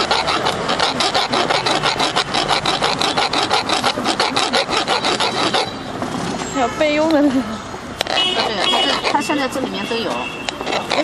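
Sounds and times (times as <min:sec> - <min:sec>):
hand tool rasping: 0:00.0 - 0:05.9, 0:08.0 - 0:11.0.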